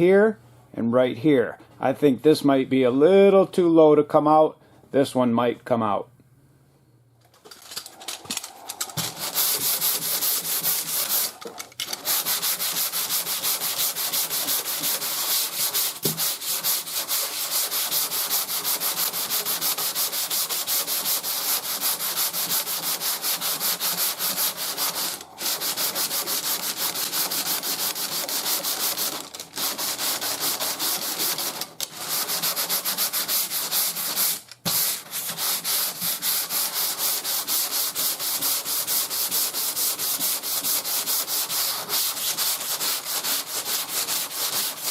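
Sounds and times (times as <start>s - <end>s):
sandpaper rubbing back and forth: 8.0s - 44.9s.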